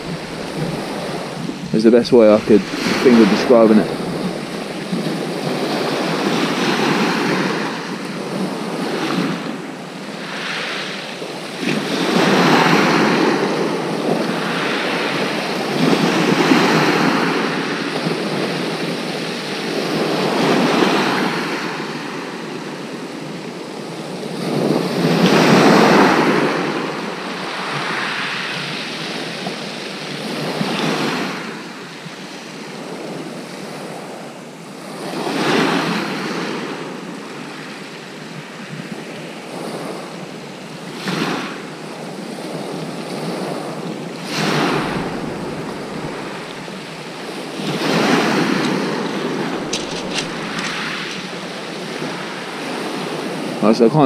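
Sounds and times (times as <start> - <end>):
waves breaking on pebble beach: 0.0 - 34.1, 34.7 - 54.0.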